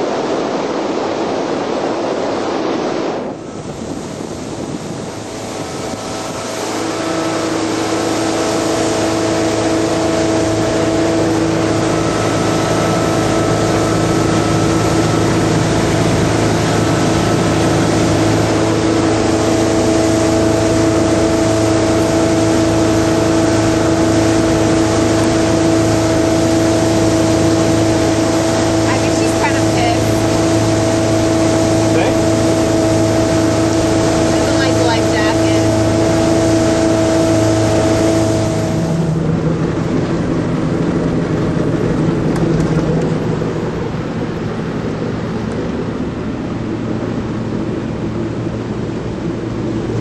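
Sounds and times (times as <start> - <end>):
boat engine humming: 0.0 - 50.0
water rushing: 0.0 - 50.0
wind rushing: 0.0 - 50.0.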